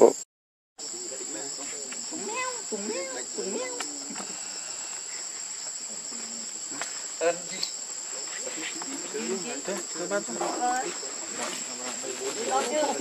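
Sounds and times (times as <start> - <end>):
insect chorus drone: 0.8 - 13.0.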